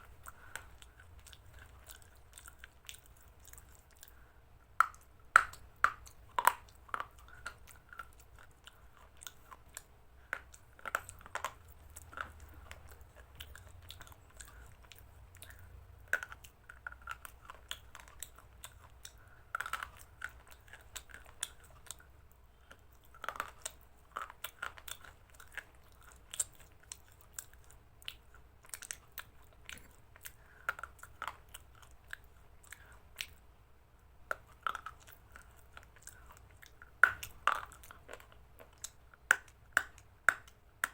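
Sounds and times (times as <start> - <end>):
person chewing with wet crunches: 0.0 - 40.9.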